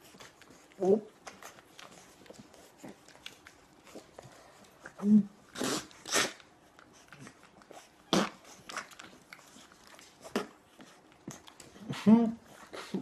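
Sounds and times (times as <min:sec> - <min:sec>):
puppies snuffling and licking: 0:00.0 - 0:13.0.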